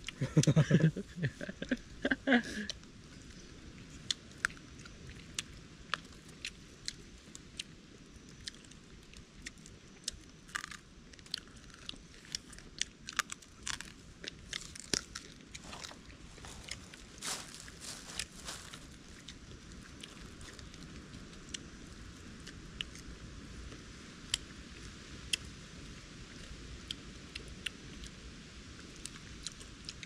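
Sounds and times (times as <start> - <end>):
chewing and crunching food: 0.0 - 30.0.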